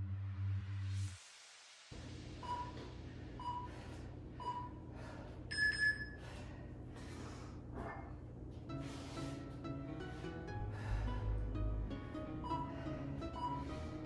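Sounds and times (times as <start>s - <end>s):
steady low hum: 2.0s - 14.0s.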